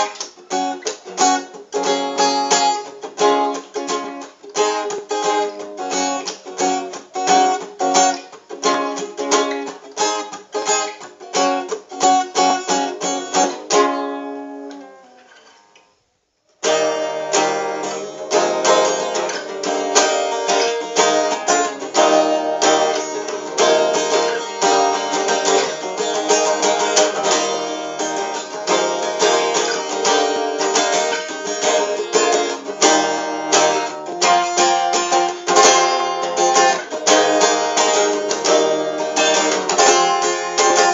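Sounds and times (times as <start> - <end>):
acoustic guitar playing: 0.0 - 15.8, 16.6 - 40.9.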